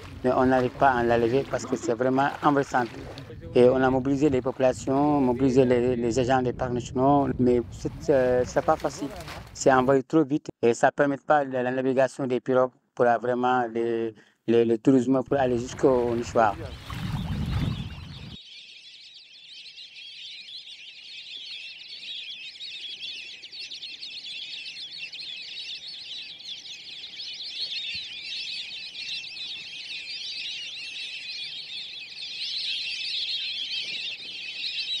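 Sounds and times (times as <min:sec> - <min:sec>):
birds chirping: 0:00.0 - 0:10.0, 0:11.4 - 0:35.0.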